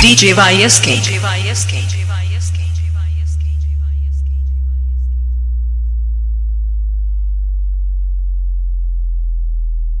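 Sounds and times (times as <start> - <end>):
deep sub-bass tone: 0.0 - 10.0.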